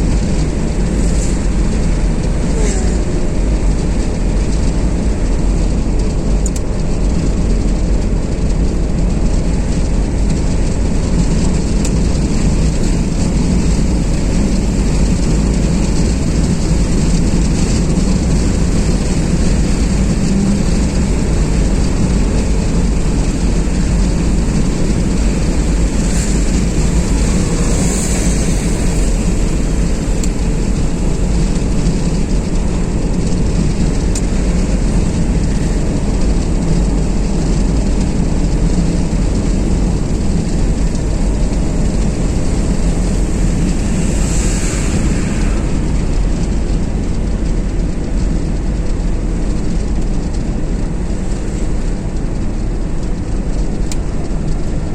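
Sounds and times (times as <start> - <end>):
car tyre and wind noise: 0.0 - 54.9.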